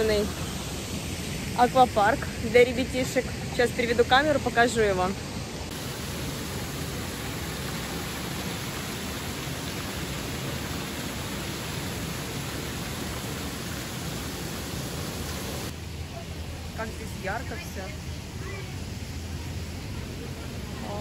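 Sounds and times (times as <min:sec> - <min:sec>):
water jets spraying and splashing: 0:00.0 - 0:21.0.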